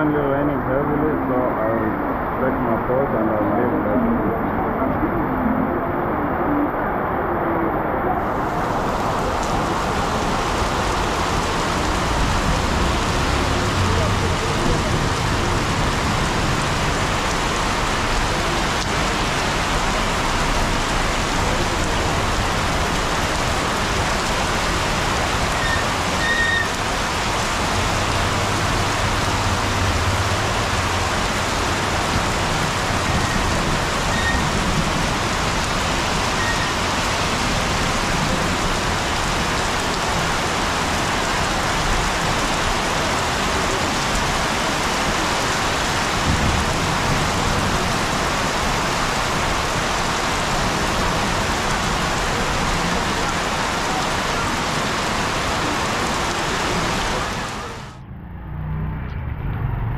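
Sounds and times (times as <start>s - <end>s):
heavy rain on wet ground: 0.0s - 59.9s.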